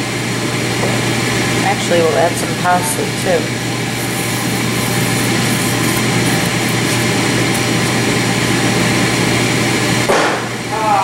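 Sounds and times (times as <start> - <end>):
steady whirring with low hum: 0.0 - 11.0.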